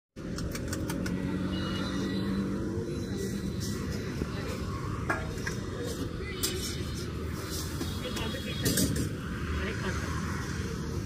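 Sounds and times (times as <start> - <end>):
street rumble: 0.2 - 11.0
faint voices: 1.0 - 11.0.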